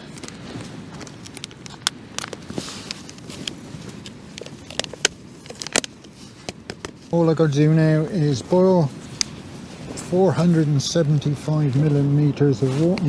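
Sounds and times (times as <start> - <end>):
low wind rumble: 0.0 - 13.0
plastic packet rustle: 0.0 - 13.0.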